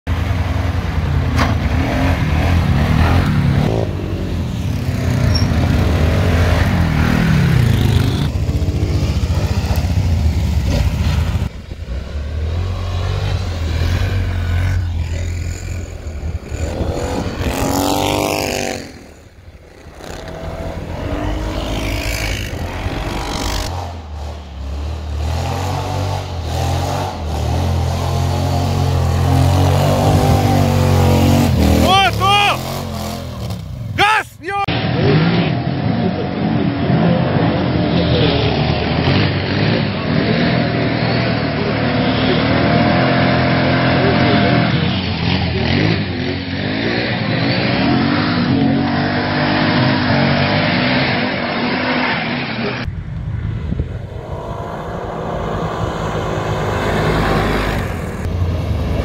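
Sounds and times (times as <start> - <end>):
quad bike engines revving: 0.1 - 59.0.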